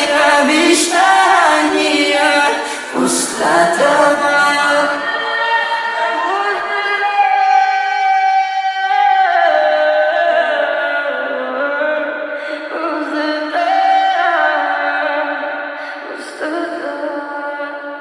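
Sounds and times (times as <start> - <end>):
wordless vocals sliding in pitch: 0.0 - 16.5.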